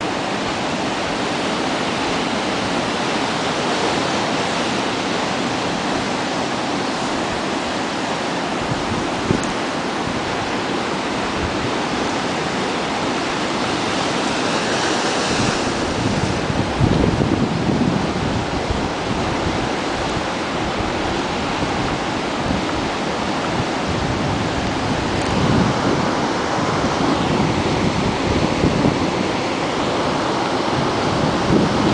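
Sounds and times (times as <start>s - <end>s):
ocean surf breaking: 0.0s - 31.9s.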